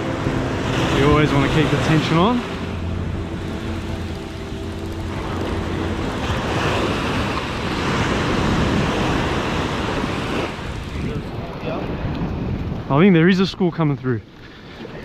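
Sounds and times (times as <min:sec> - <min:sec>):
surf washing up sandy beach: 0:00.0 - 0:13.1.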